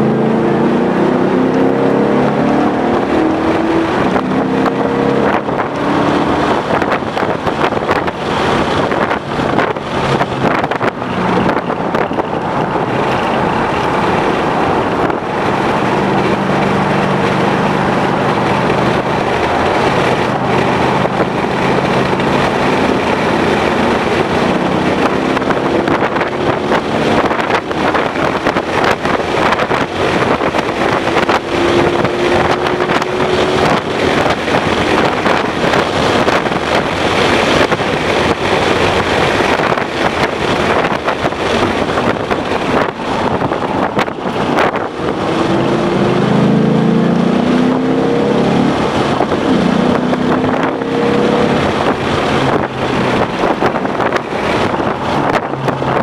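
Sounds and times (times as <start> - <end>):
car engine accelerating: 0.0 - 56.0
wind and road noise: 0.0 - 56.0.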